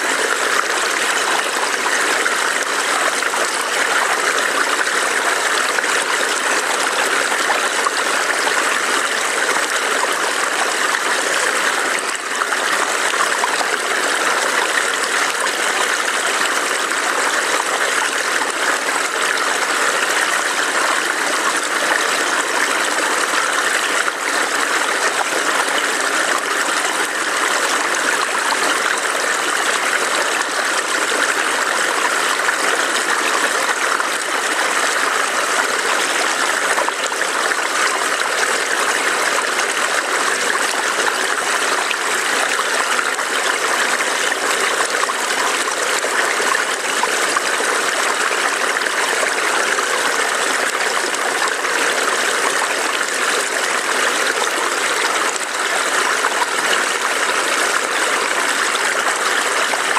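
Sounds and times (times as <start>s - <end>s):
stream burbling over rocks: 0.0s - 59.9s.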